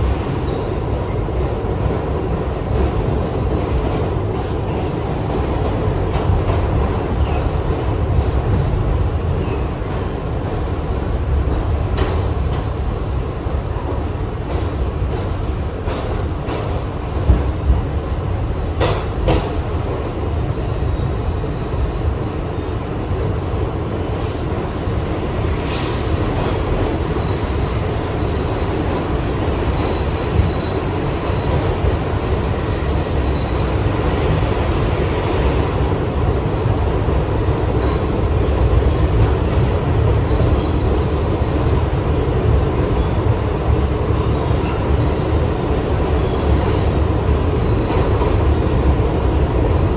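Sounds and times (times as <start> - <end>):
subway wheels rumbling on rail: 0.0 - 49.9.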